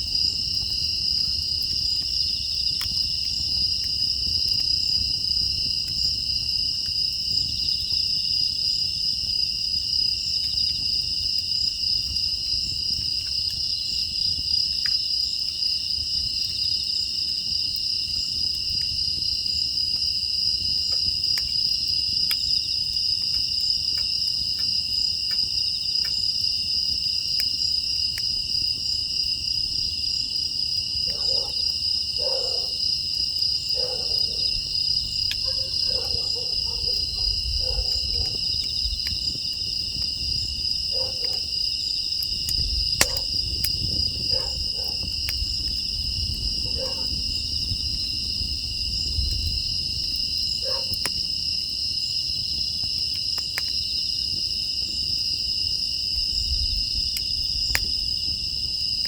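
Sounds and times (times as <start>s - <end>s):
crickets chirring: 0.0s - 59.0s
wood fire rumbling and crackling: 0.0s - 59.0s.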